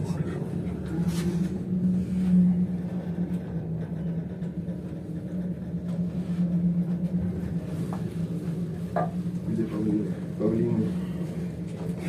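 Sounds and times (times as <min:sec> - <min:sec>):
cable car gondola humming: 0:00.0 - 0:12.0.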